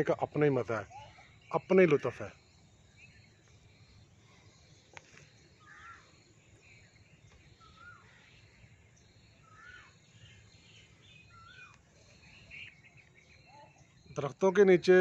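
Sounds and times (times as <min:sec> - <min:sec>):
high bird chirps: 0:00.0 - 0:15.0.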